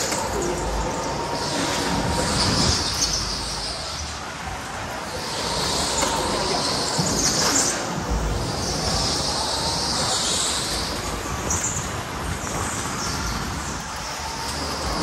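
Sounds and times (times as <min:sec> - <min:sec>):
go-kart running and wind noise: 0:00.0 - 0:15.0.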